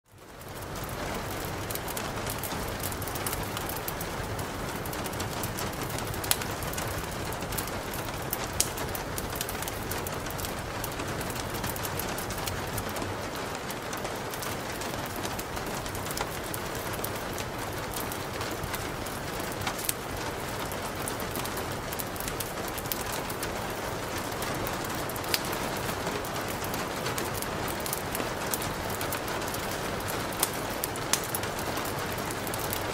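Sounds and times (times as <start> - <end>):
steady rain hiss: 0.1 - 32.9.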